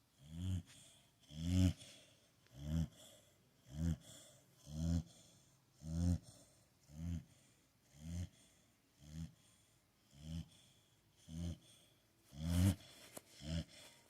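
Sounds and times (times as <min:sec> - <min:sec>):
dog snoring: 0:00.1 - 0:14.0.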